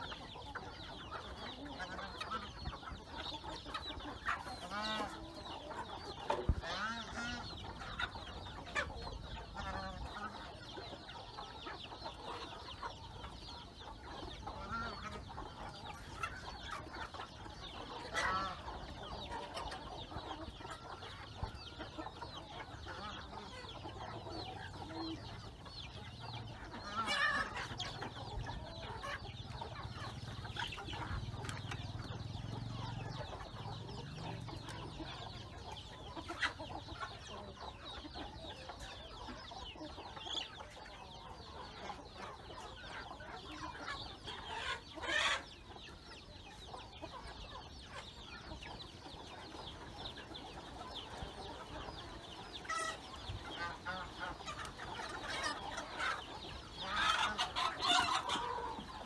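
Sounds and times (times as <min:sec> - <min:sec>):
chickens clucking: 0:00.0 - 0:59.0
loud chicken calls: 0:00.0 - 0:59.0.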